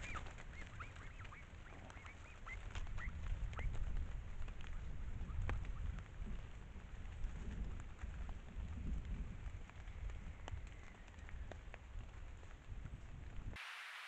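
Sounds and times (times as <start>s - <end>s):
drops pattering on leaves: 0.0s - 14.0s.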